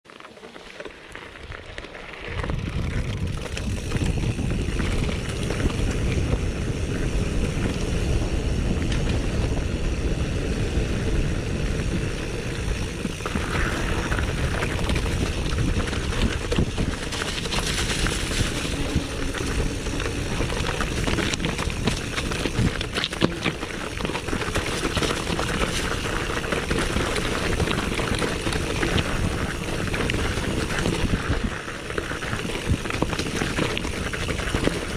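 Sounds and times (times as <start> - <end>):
bike knocking and rattling: 0.1 - 34.9
bike tyres rumbling on gravel: 0.1 - 34.9
wind on microphone: 1.4 - 34.9.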